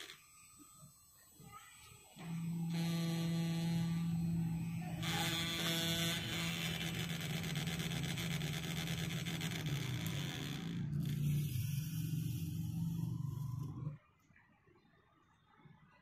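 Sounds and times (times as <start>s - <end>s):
spindle motor humming with whine: 0.0s - 14.0s.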